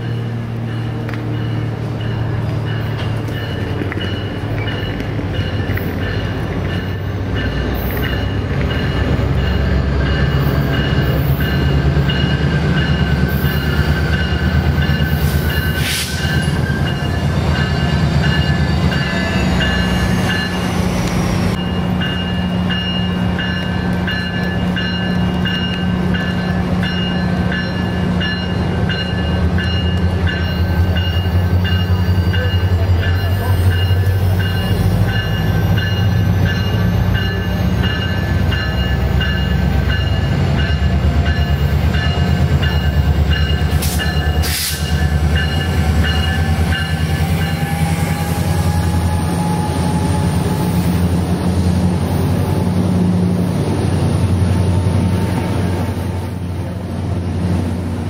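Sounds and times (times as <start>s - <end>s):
diesel train rumbling: 0.0s - 58.0s.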